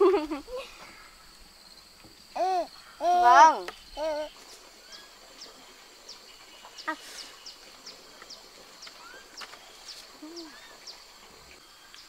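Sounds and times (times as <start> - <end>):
high insect hum: 0.0 - 12.0
small bird chirping: 1.8 - 12.0.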